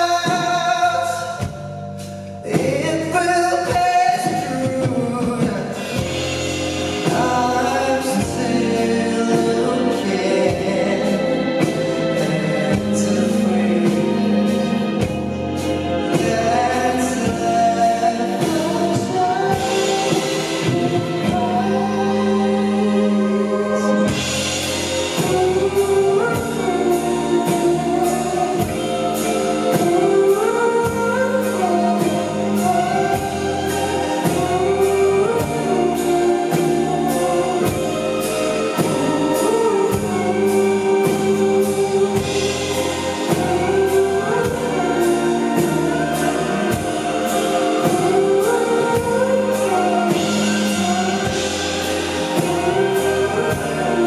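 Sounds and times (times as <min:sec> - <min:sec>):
live band playing: 0:00.0 - 0:54.0
person singing: 0:00.0 - 0:54.0.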